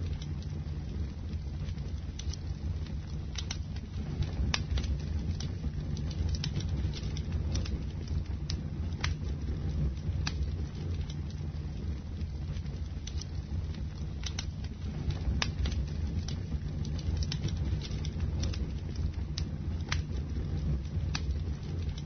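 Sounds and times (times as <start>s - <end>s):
bonfire flames rumbling: 0.0s - 22.0s
fire crackles and pops: 0.0s - 22.0s.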